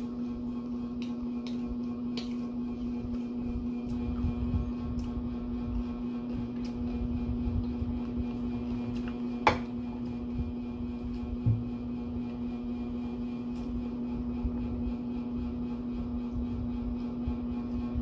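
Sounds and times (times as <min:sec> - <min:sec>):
appliance electrical hum: 0:00.0 - 0:18.0.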